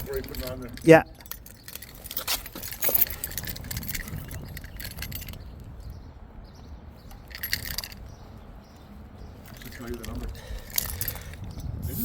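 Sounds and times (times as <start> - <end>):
small metallic clinks and rattles: 0.0 - 6.1, 7.0 - 12.0.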